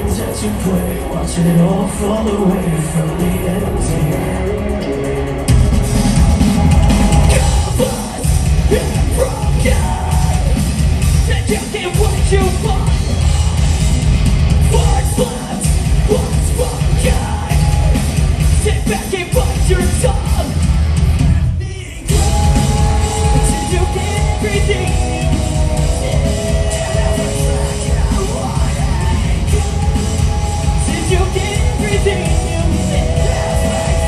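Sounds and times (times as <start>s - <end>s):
bass: 0.0s - 34.0s
distorted guitars: 0.0s - 34.0s
drums: 0.0s - 34.0s.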